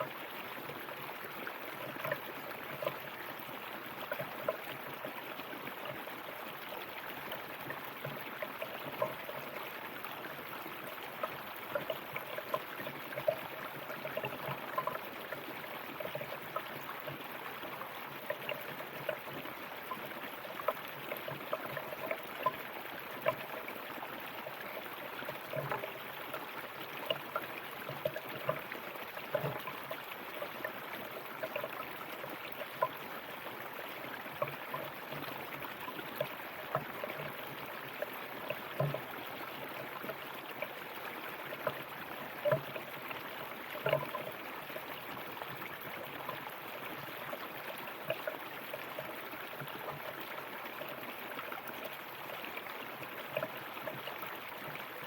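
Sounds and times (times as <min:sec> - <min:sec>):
river water over stones: 0:00.0 - 0:55.0.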